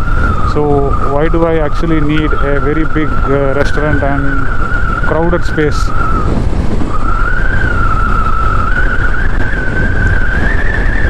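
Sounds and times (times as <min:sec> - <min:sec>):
high-pitched whistle: 0:00.0 - 0:11.0
motorcycle engine and wind rumble: 0:00.0 - 0:11.0.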